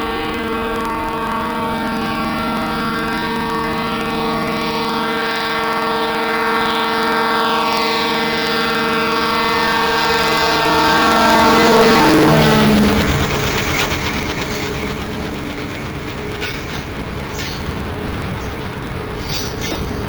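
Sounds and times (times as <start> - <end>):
train horn blast: 0.0 - 20.0.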